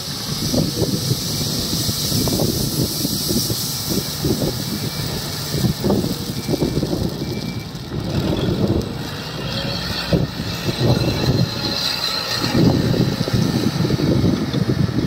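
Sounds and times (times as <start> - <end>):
loader diesel engine working hard: 0.0 - 15.0.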